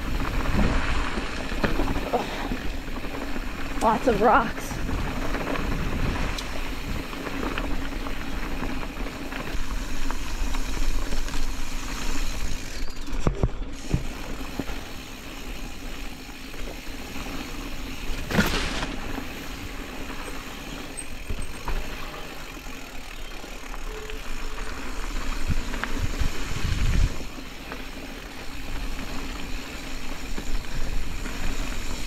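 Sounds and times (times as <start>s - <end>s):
bike rattling: 0.0s - 32.0s
bike tyres crunching over gravel: 0.0s - 32.0s.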